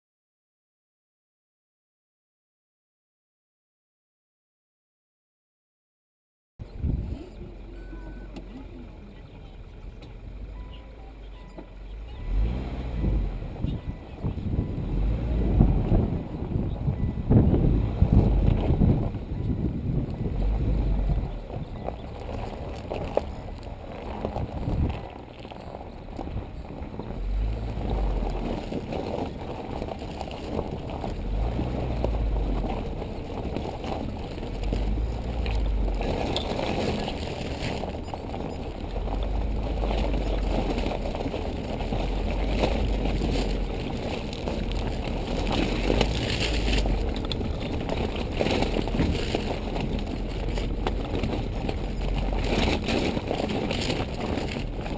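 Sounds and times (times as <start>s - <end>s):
wind buffeting microphone: 6.6s - 10.4s, 12.6s - 54.9s
vehicle rumbling on gravel track: 6.6s - 54.9s.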